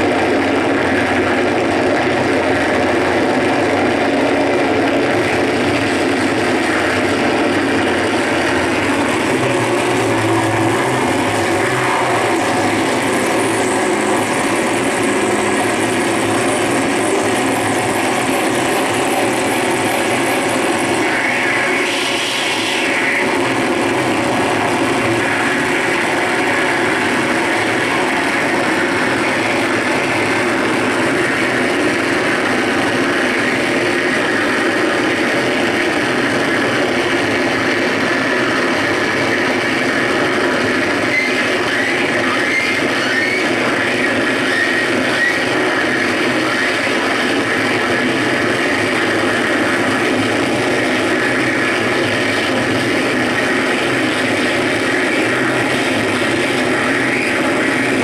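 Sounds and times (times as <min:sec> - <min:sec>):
harsh distorted noise music: 0:00.0 - 0:58.0.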